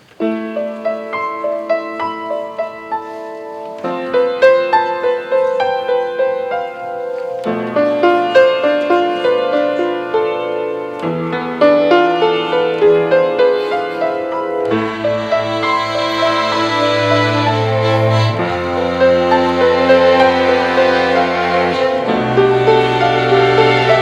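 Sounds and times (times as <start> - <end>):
keyboard playing slow melody: 0.0 - 24.0.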